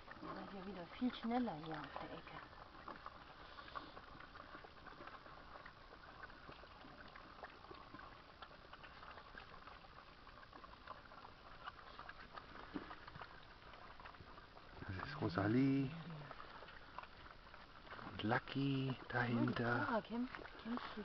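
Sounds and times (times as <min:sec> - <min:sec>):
puppies lapping food: 0:00.0 - 0:21.0.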